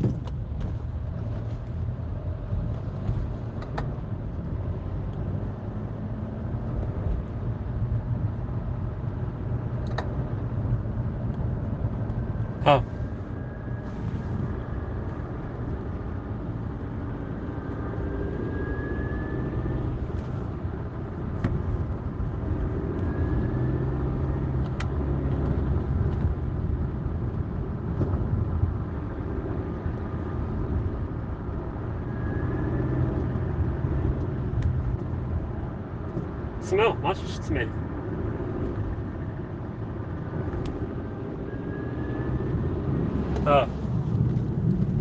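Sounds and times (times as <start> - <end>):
diesel car engine and road noise: 0.0 - 45.0.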